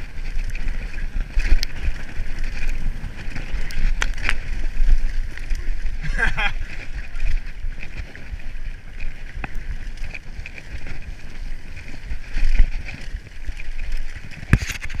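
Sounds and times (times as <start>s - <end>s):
tyres rumbling on dirt: 0.0s - 15.0s
wind buffeting microphone: 0.0s - 15.0s.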